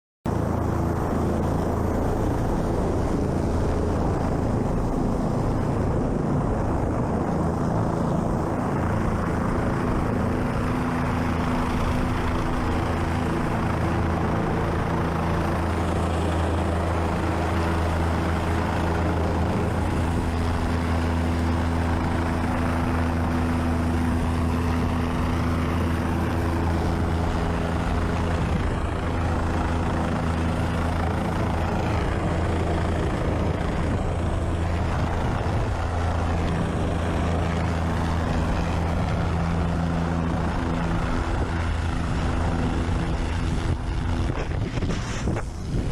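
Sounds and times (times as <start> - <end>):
helicopter running: 0.3 - 45.9.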